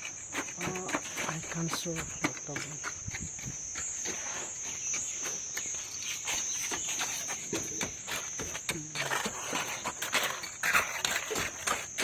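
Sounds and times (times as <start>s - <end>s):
insect chirring: 0.0s - 12.0s
short knocks and scrapes: 0.0s - 12.0s.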